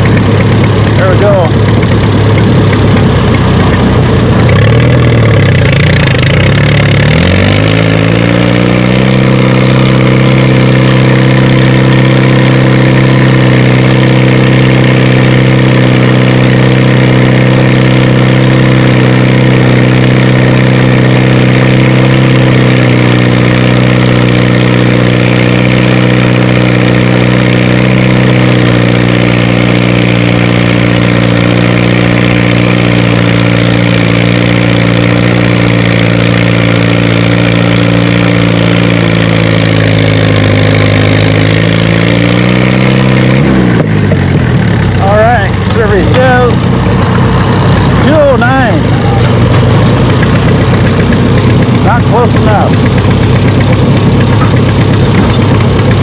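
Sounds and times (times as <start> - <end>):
tractor engine under heavy load: 0.0 - 56.0.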